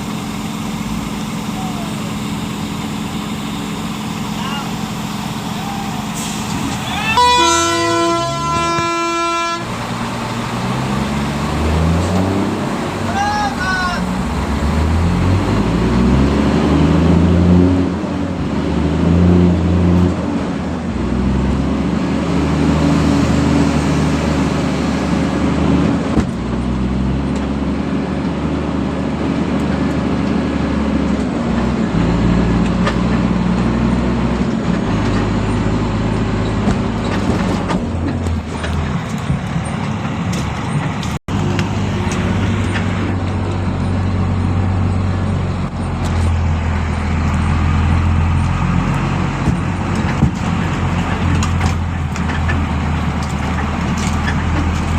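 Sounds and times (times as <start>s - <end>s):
truck diesel engine running: 0.0s - 54.9s.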